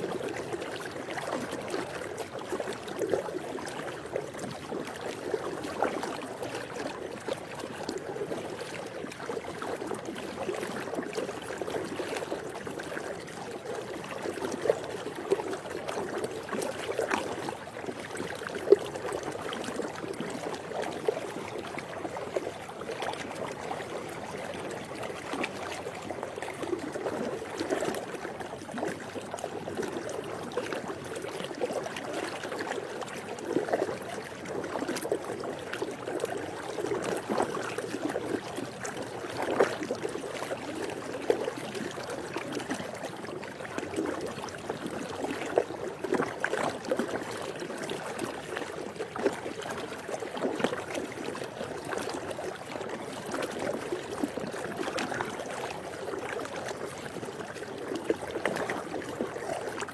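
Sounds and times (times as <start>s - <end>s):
pool water lapping: 0.0s - 59.9s
small water splashes: 0.0s - 59.9s.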